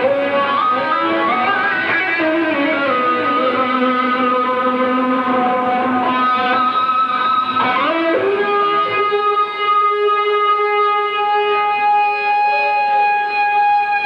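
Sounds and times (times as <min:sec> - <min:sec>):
electric guitar sustained lead notes: 0:00.0 - 0:14.0.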